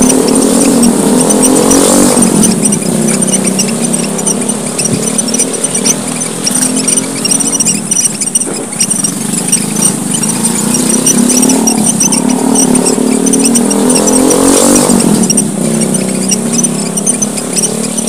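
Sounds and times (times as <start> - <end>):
finches chirping: 0.0 - 18.0
vehicle engine passing: 0.0 - 18.0.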